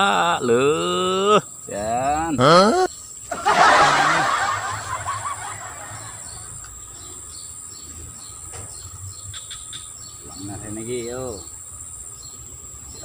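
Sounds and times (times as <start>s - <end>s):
birds chirping: 0.0s - 13.0s
rural background noise: 0.0s - 13.0s.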